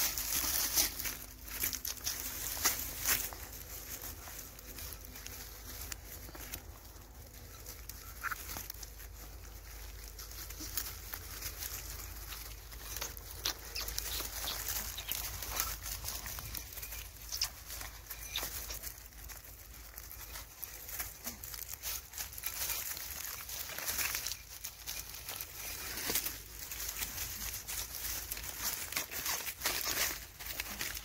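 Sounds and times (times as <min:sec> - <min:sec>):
twigs and leaves crackling: 0:00.0 - 0:31.0.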